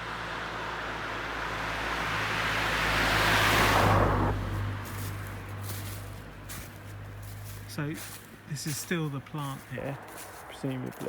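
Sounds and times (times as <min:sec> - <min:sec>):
car passing by: 0:00.0 - 0:11.0.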